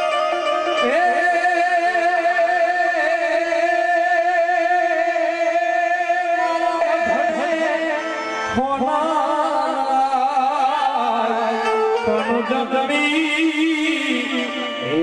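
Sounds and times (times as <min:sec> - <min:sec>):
person singing ornamented melody: 0:00.0 - 0:15.0.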